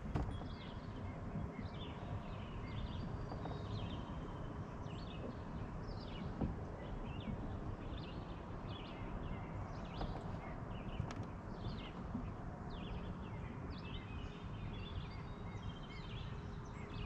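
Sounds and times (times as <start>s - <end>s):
birds chirping and trilling: 0.1s - 17.0s.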